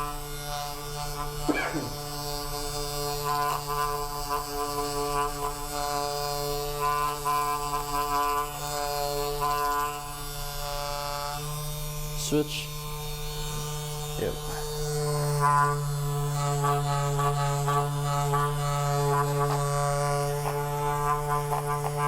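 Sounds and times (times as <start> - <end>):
small electric motor buzzing: 0.0 - 22.0.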